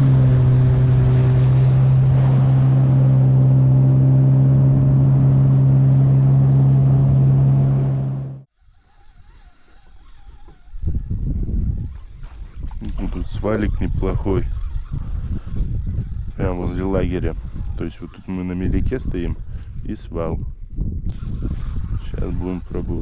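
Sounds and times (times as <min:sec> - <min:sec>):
boat motor running: 0:00.0 - 0:19.6
water noise: 0:00.0 - 0:19.6
wind: 0:00.0 - 0:23.0.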